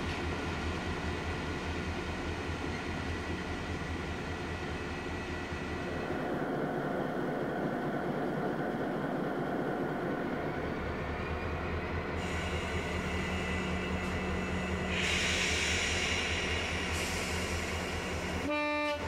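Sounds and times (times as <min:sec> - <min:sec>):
diesel locomotive engines rumbling: 0:00.0 - 0:19.0.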